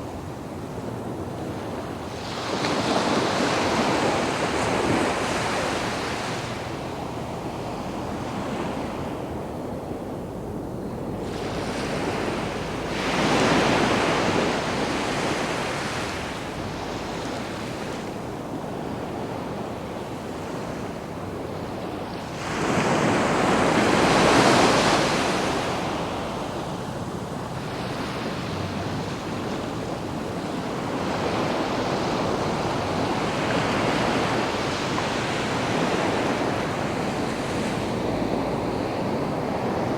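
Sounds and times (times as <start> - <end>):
sea waves breaking on beach: 0.0 - 39.9
wind: 0.0 - 39.9.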